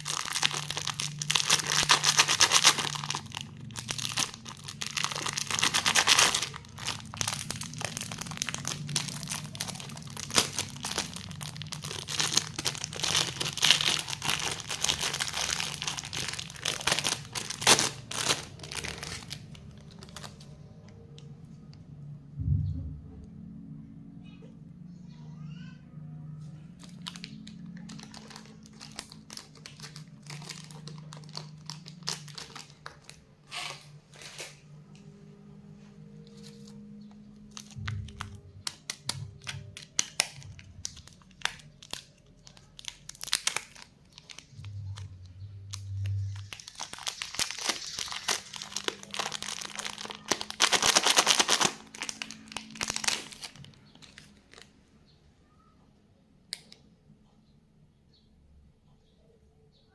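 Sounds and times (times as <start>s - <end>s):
plastic wrappers crinkling and tearing: 0.0s - 21.8s, 26.8s - 35.1s, 36.0s - 54.8s.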